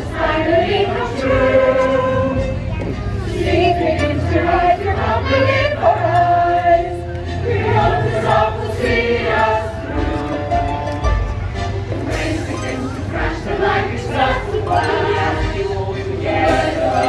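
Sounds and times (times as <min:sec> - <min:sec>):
choir singing: 0:00.0 - 0:10.8, 0:11.9 - 0:17.0.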